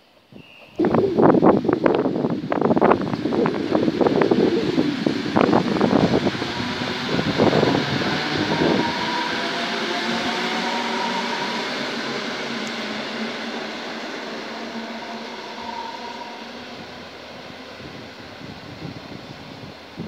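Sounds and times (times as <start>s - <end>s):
train running hum with whine: 0.0s - 20.0s.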